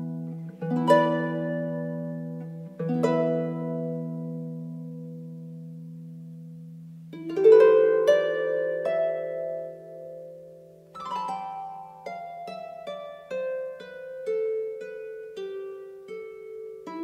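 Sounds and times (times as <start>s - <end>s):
harp plucked chords: 0.0s - 17.0s.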